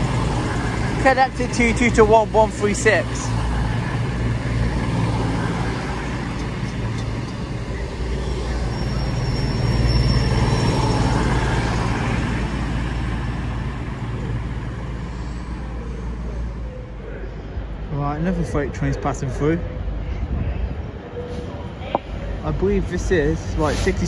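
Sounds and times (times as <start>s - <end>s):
diesel engines humming: 0.0s - 24.0s.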